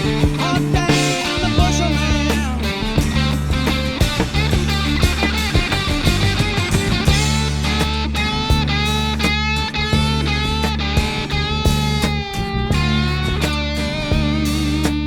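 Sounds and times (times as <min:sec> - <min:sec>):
bass: 0:00.0 - 0:15.0
guitar: 0:00.0 - 0:15.0
steady drum beat: 0:00.0 - 0:15.0.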